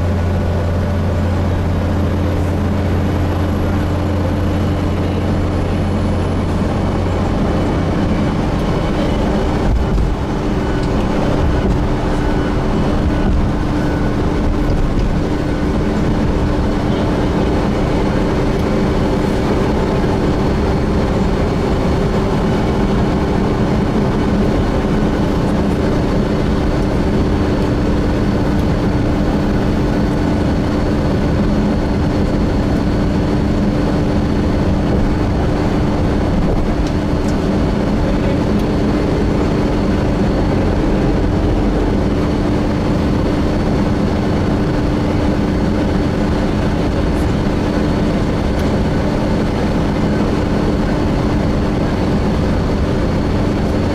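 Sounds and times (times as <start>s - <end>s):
bus engine and road drone: 0.0s - 53.9s
steady whining tones: 0.0s - 53.9s.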